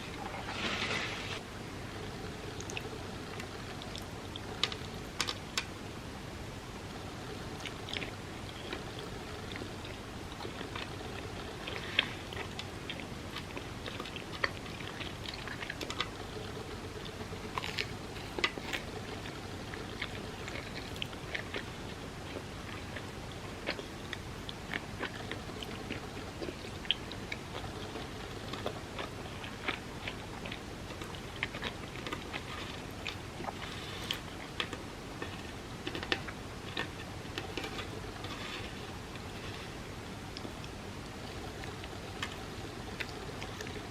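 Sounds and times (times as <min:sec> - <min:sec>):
low hiss: 0:00.0 - 0:43.9
chewing: 0:07.2 - 0:43.9.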